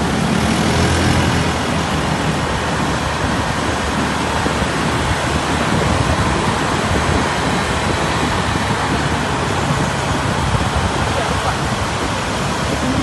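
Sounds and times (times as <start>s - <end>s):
road traffic noise: 0.0s - 13.0s
wind on microphone: 0.0s - 13.0s.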